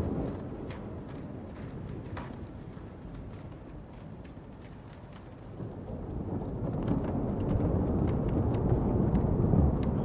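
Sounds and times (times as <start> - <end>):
hail and heavy rain on surfaces: 0.0 - 10.0
thunder rumble: 0.0 - 10.0.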